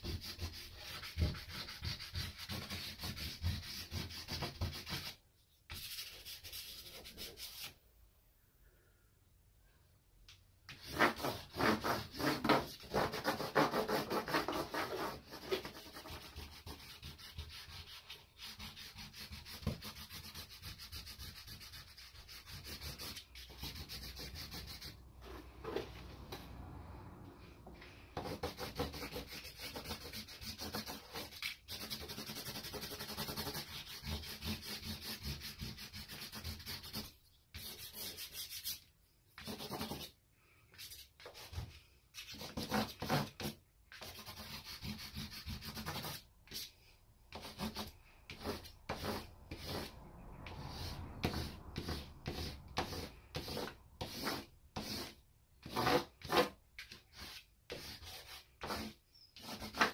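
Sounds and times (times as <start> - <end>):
charcoal scratching on paper: 0.0 - 7.8, 10.7 - 25.9, 28.2 - 59.9.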